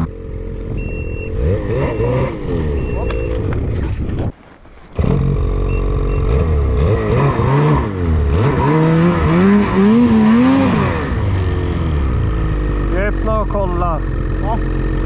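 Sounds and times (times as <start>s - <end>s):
snowmobile engine revving: 0.0s - 4.2s, 4.8s - 15.0s.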